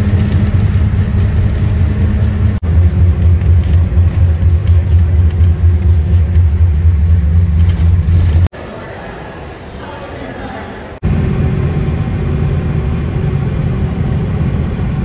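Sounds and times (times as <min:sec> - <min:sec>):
loud low rumble: 0:00.0 - 0:08.5, 0:11.0 - 0:15.0.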